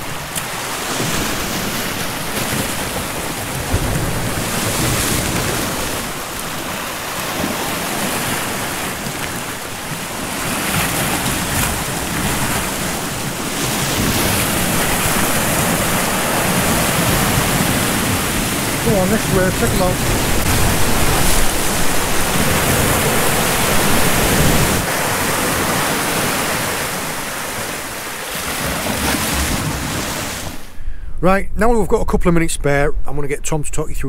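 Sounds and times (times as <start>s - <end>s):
waves breaking over rocks: 0.0s - 31.4s.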